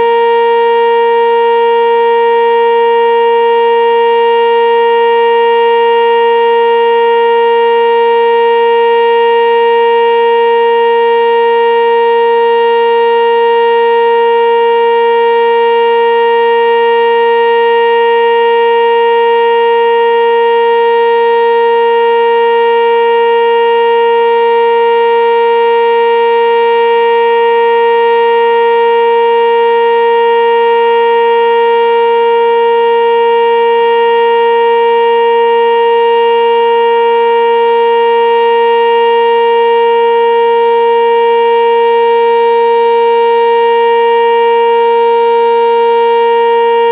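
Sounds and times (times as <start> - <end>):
storm siren steady tone: 0.0 - 46.9.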